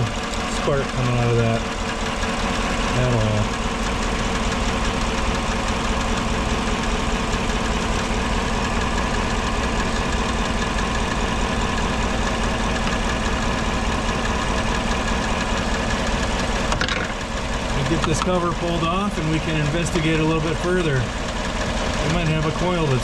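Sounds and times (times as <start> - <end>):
truck engine idling with misfire: 0.0 - 23.0.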